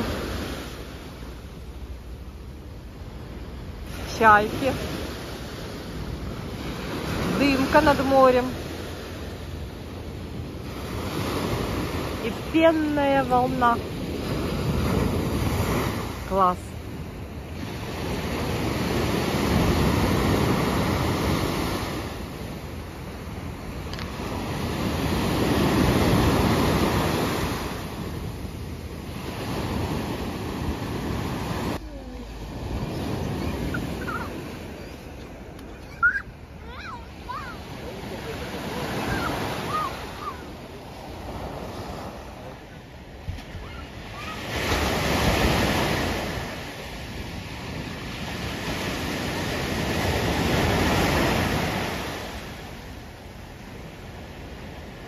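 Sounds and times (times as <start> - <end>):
surf breaking on a beach: 0.0 - 55.0.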